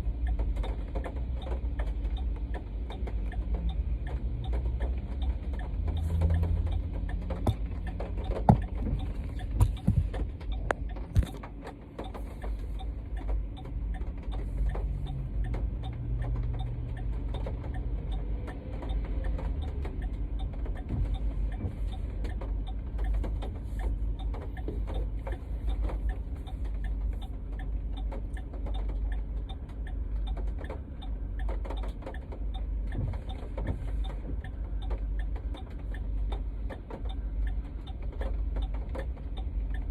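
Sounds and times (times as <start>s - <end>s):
engine and road rumble: 0.0s - 39.9s
raindrops on car roof: 0.0s - 39.9s.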